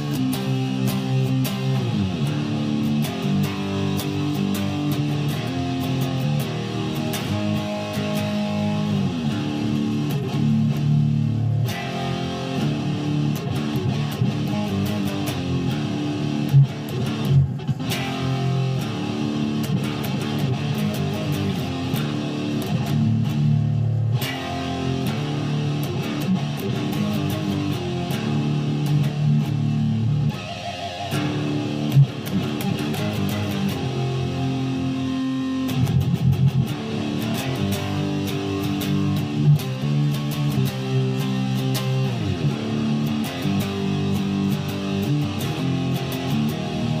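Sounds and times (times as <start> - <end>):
guitar music: 0.0 - 47.0.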